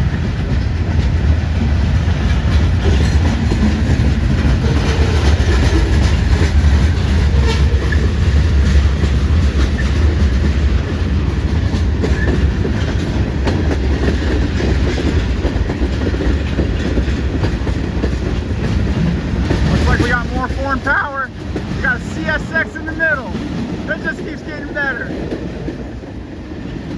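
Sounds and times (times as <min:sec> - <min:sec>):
freight train rumbling past: 0:00.0 - 0:26.9
wheels clacking over rail joints: 0:00.0 - 0:26.9.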